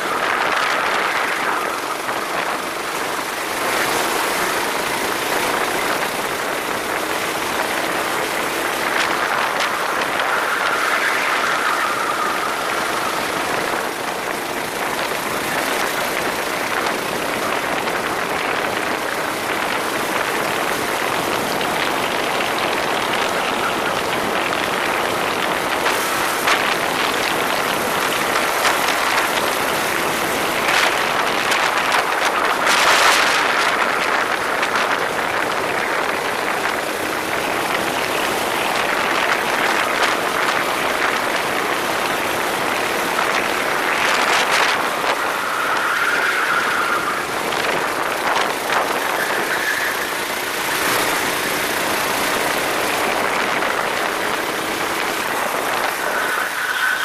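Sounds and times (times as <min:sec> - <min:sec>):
kart motor noise: 0:00.0 - 0:57.0
rushing wind: 0:00.0 - 0:57.0.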